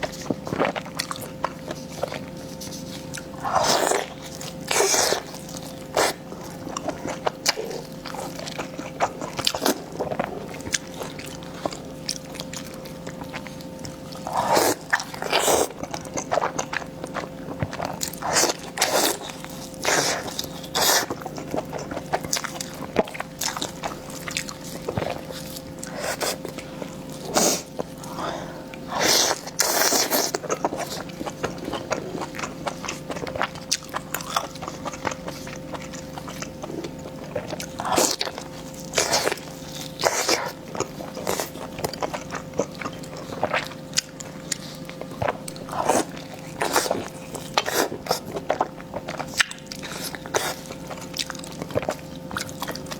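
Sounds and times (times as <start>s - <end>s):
faint steady hum: 0.0s - 52.9s
person chewing and biting food: 0.0s - 52.9s.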